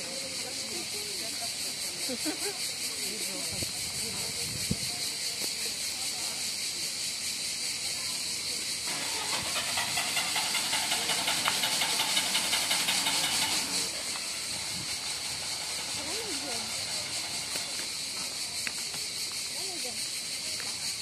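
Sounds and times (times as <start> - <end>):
high hiss: 0.0 - 21.0.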